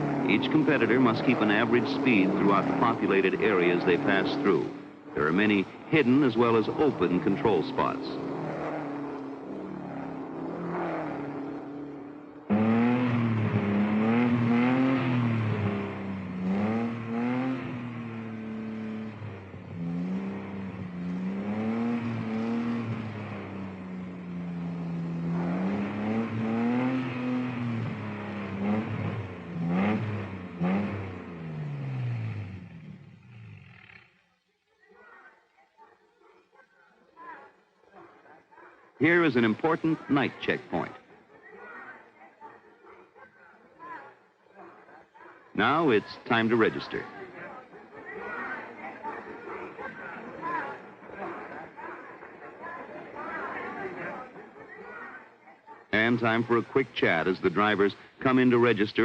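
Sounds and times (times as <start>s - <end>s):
sports car engines revving: 0.0s - 34.2s, 39.0s - 41.0s, 45.5s - 55.0s, 55.9s - 59.0s.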